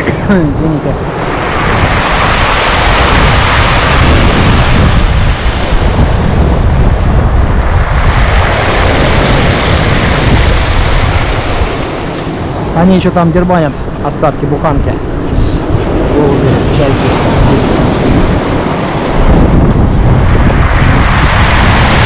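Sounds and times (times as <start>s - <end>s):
wind buffeting microphone: 0.0s - 22.0s
surf washing over pebbles: 0.6s - 15.0s, 15.6s - 22.0s.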